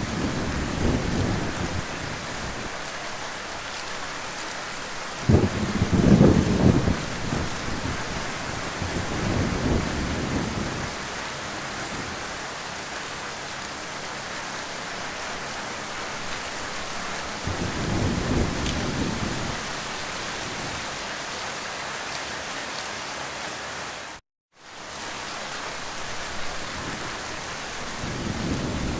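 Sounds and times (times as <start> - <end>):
heavy rain hissing: 0.0 - 28.9.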